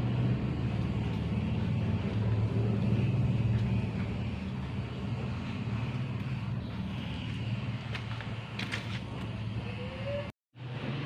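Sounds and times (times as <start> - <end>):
low motor-like rumble: 0.0 - 11.0.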